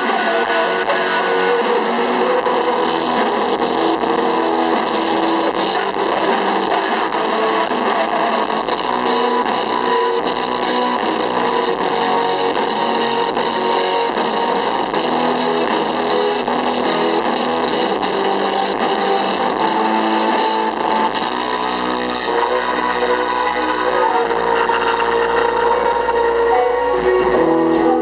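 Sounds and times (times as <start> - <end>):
drums: 0.0 - 28.0
electric guitar: 0.0 - 28.0
live rock band playing: 0.0 - 28.0.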